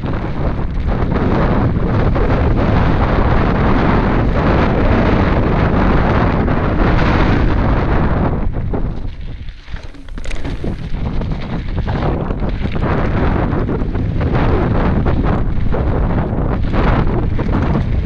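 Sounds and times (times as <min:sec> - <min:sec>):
bike tyres rattling on gravel: 0:00.0 - 0:18.0
wind buffeting microphone: 0:00.0 - 0:18.0.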